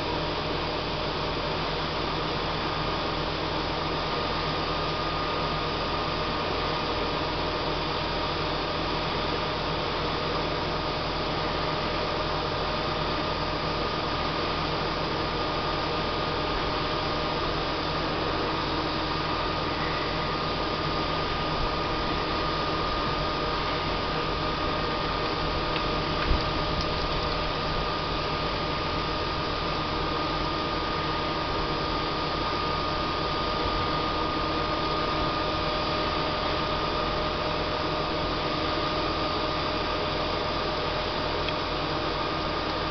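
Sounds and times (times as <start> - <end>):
constant high whine: 0.0 - 42.9
hydraulic mechanical hum: 0.0 - 42.9.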